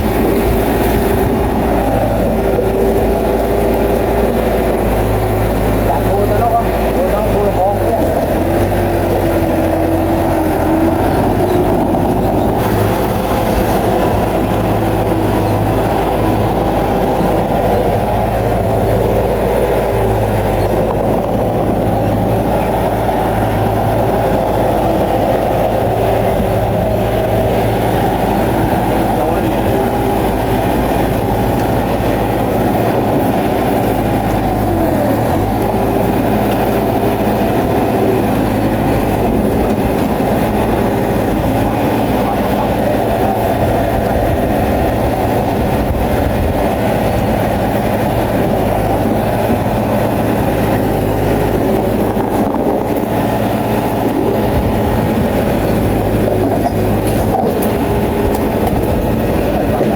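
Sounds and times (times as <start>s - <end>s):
bulldozer diesel engine: 0.0s - 59.9s
steel tracks clanking: 0.0s - 59.9s.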